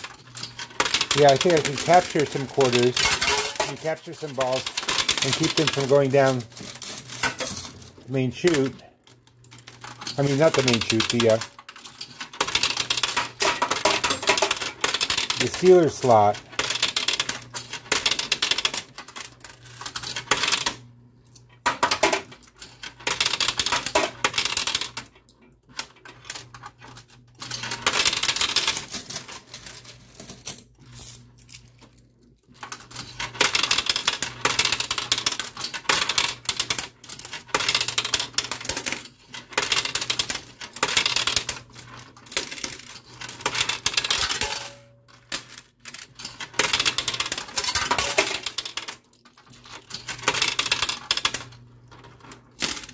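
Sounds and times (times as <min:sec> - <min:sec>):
coins clinking and clattering: 0:00.0 - 0:25.1, 0:25.8 - 0:52.9.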